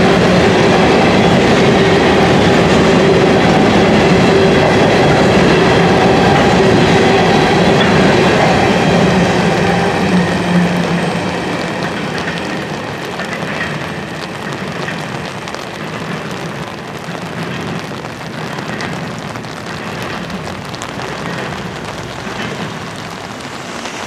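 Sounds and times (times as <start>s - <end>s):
freight cars rolling on rails: 0.0s - 24.0s.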